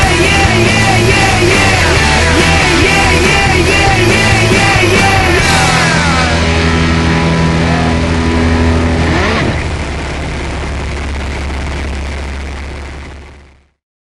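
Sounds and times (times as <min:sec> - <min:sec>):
propeller plane engine drone: 0:00.0 - 0:13.8.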